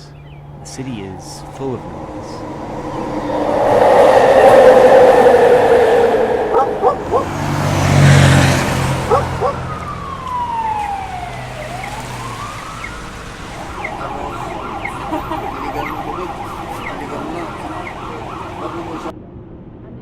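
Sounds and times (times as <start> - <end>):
emergency siren wailing and yelping: 0.0 - 19.1
vehicle passing by: 0.0 - 19.1.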